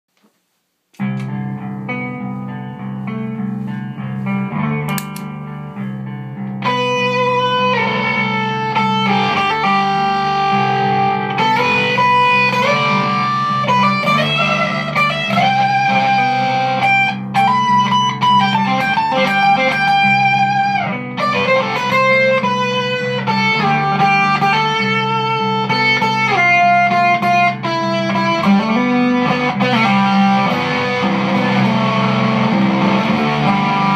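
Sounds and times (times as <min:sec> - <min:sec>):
fuzz electric guitar riff: 0:01.0 - 0:33.9
guitar lead lines: 0:01.0 - 0:33.9.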